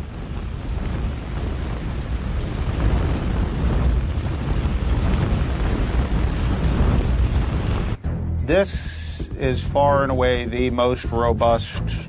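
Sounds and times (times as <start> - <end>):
deep demolition rumble: 0.0 - 10.7.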